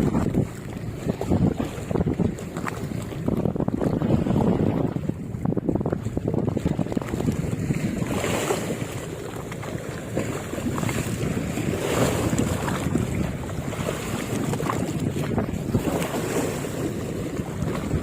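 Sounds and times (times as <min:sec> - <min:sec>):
sea waves washing: 0:00.0 - 0:18.0
wind buffeting microphone: 0:00.0 - 0:18.0.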